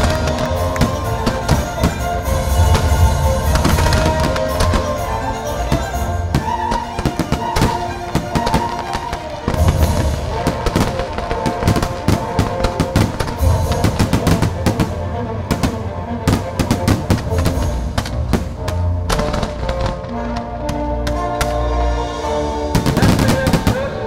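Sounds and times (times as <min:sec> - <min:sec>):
fireworks bangs: 0:00.0 - 0:21.8, 0:22.7 - 0:24.0
loud show music: 0:00.0 - 0:24.0.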